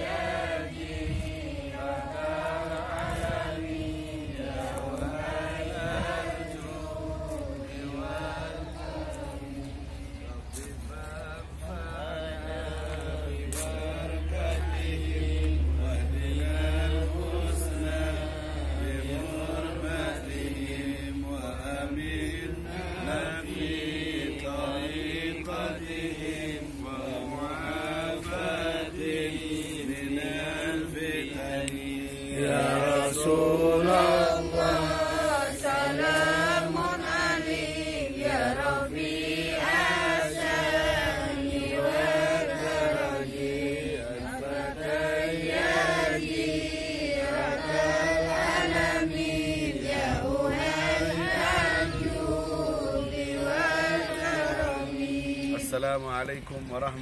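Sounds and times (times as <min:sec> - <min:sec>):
person chanting a prayer: 0:00.0 - 0:57.0.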